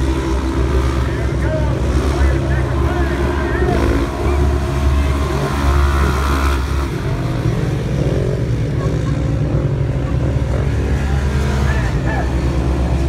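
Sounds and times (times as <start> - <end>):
racing engines revving: 0.0 - 13.0.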